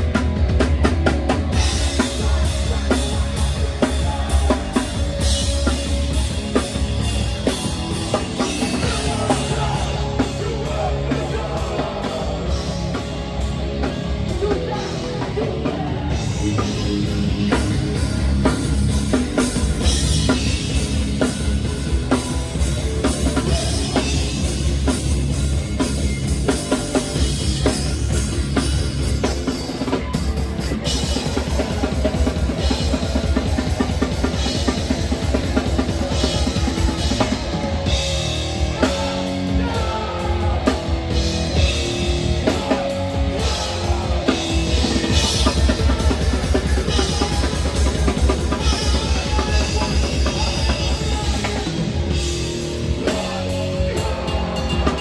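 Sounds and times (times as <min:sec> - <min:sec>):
punk band playing live: 0:00.0 - 0:55.0.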